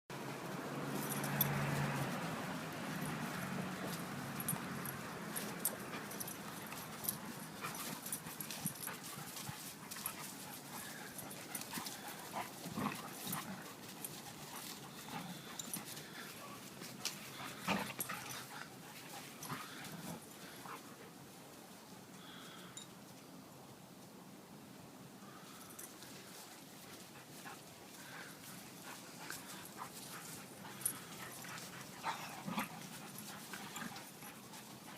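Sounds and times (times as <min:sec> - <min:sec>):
puppies scuffling: 0:00.2 - 0:20.9, 0:26.0 - 0:34.9.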